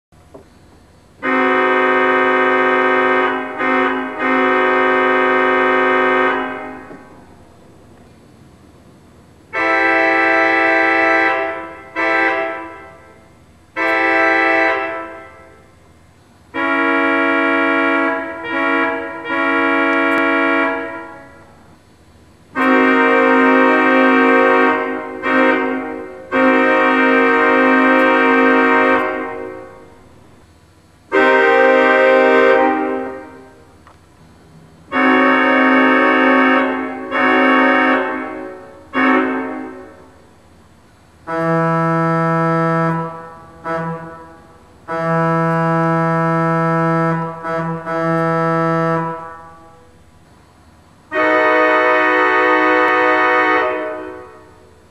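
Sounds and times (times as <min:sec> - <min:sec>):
pipe organ chords: 0:01.2 - 0:07.8, 0:09.5 - 0:33.8, 0:34.8 - 0:50.1, 0:51.1 - 0:54.9.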